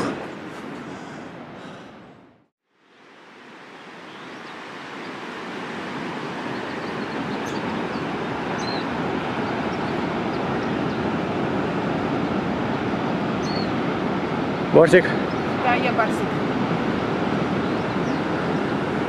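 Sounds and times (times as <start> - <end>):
ocean surf roaring: 0.0 - 2.2, 3.0 - 19.0.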